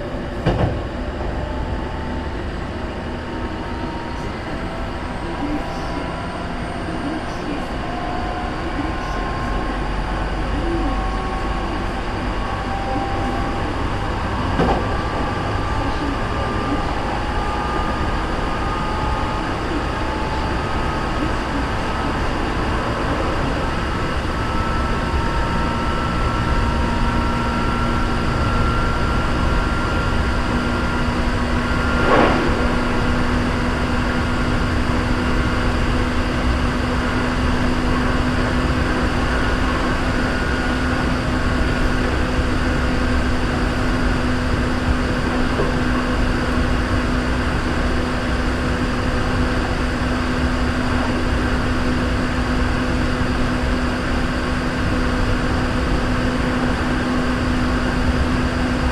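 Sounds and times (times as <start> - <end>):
electric train rumbling: 0.0 - 58.9.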